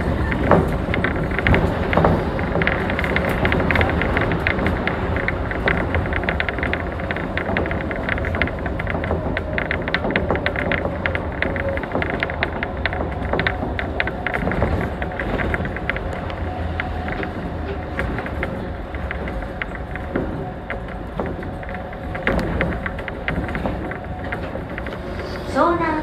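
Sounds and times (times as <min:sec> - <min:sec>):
monorail car low rumble: 0:00.0 - 0:26.0
rattling clicks: 0:00.0 - 0:26.0.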